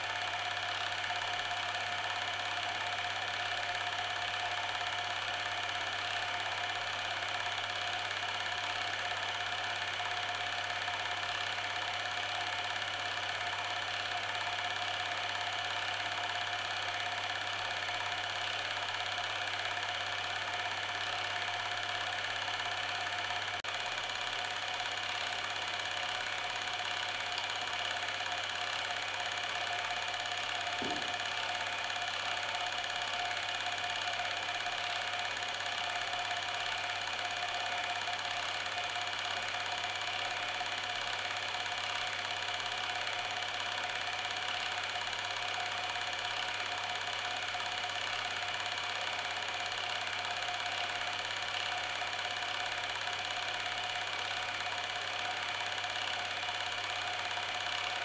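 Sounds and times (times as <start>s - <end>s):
small machine motor droning: 0.0s - 58.0s.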